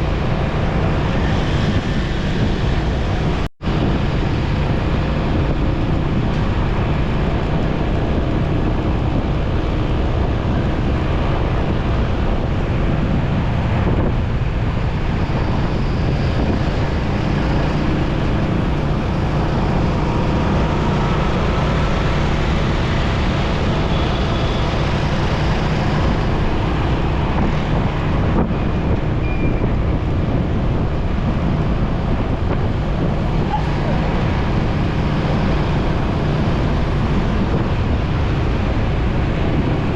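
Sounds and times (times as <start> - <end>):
road traffic hum: 0.0 - 39.9
wind rush on microphone: 0.0 - 39.9.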